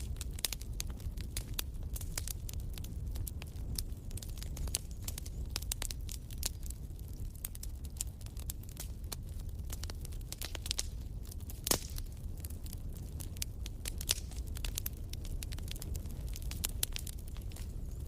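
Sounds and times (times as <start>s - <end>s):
fire crackling in a fireplace: 0.0s - 18.0s.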